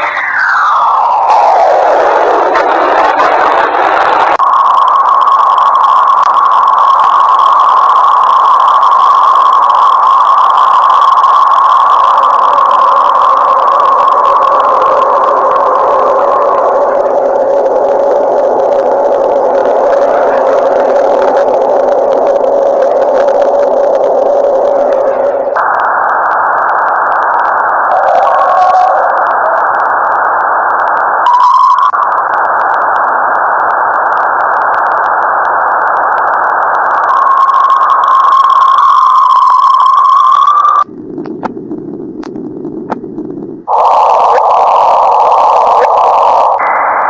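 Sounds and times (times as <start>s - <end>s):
electronic hiss with held tones: 4.3s - 41.5s, 42.1s - 47.0s.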